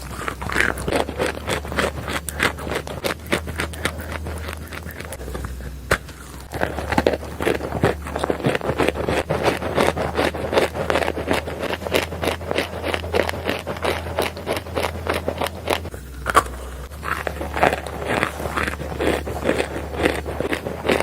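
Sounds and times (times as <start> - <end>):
chewing crunchy clay: 0.0 - 21.0.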